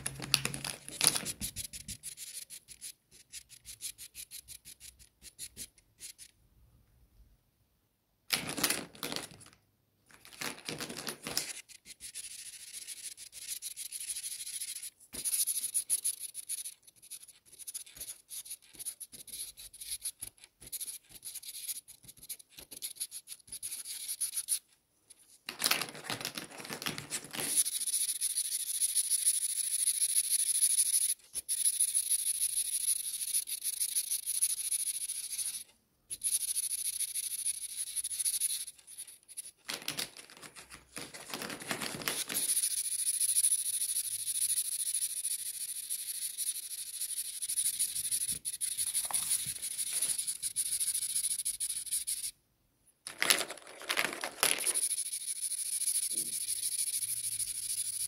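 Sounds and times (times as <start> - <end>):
marker scratching on paper: 0.0 - 6.4, 10.9 - 25.4, 26.9 - 39.6, 40.6 - 52.3, 54.5 - 58.0
markers rustling when handled: 0.0 - 6.4, 8.3 - 52.3, 53.1 - 58.0.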